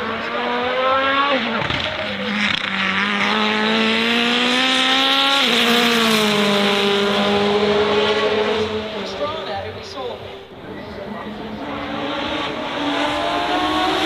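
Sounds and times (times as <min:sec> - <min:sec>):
racing car engine accelerating: 0:00.0 - 0:09.7, 0:10.5 - 0:14.0.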